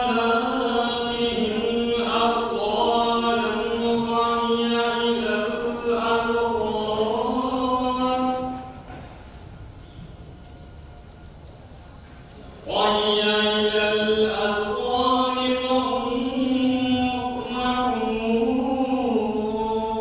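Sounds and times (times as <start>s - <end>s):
man chanting melodically: 0.0s - 8.8s, 12.6s - 20.0s.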